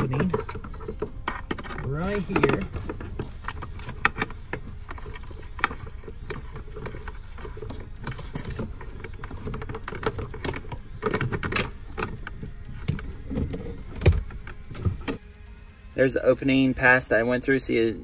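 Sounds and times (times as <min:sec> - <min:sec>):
cable rubbing against plastic trim: 0:00.0 - 0:15.2.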